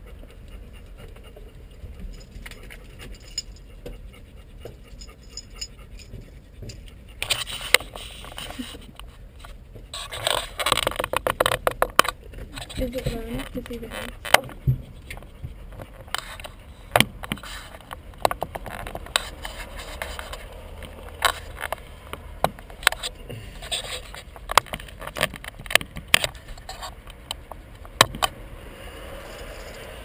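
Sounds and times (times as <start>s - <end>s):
low steady rumble: 0.0s - 30.0s.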